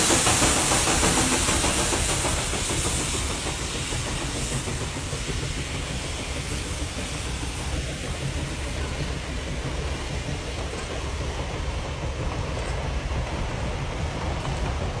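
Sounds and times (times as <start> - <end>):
steam train wheels rumbling on rail: 0.0 - 15.0.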